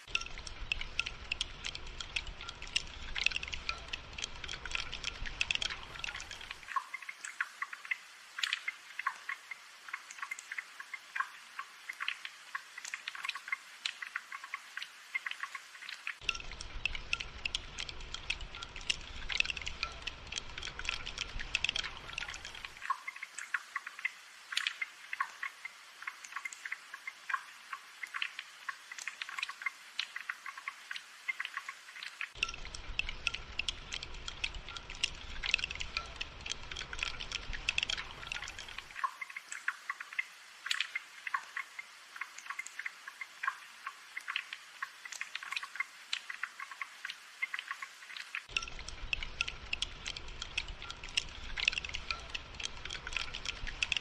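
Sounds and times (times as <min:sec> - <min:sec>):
rain dripping and pattering: 0:00.0 - 0:54.0.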